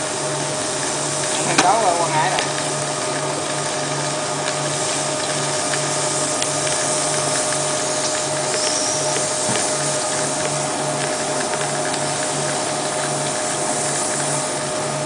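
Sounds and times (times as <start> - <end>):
press machine humming with pulsing beat: 0.0 - 15.0.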